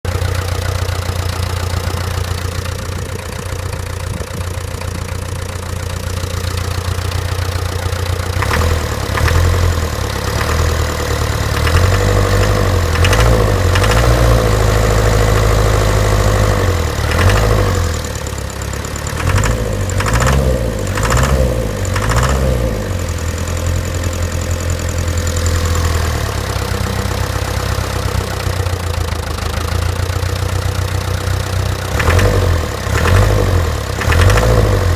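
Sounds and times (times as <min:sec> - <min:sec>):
diesel engine running with a knock: 0:00.0 - 0:34.9.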